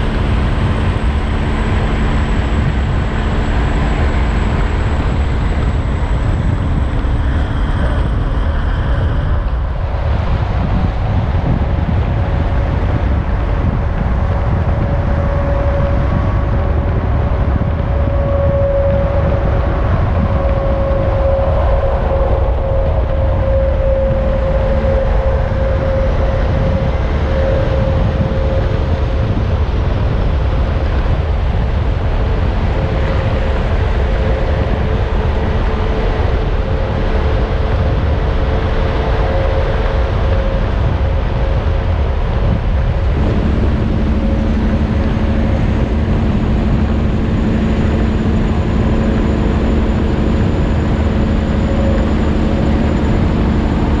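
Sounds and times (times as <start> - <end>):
held hum: 0.0 - 54.0
vehicle engine and road noise: 0.0 - 54.0.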